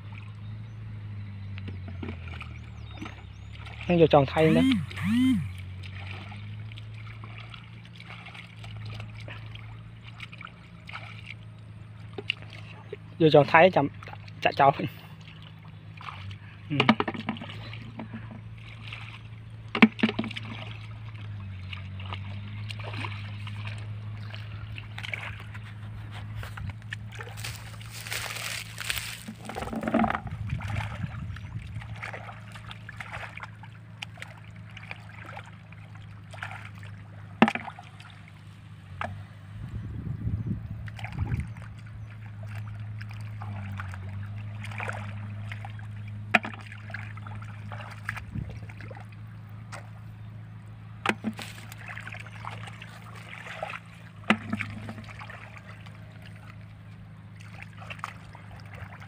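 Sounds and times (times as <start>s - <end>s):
low engine hum: 0.0s - 59.0s
hands sloshing in muddy water: 1.4s - 39.6s, 40.6s - 59.0s
sharp splashes: 1.8s - 25.6s, 26.9s - 39.2s, 40.8s - 50.0s, 51.0s - 59.0s.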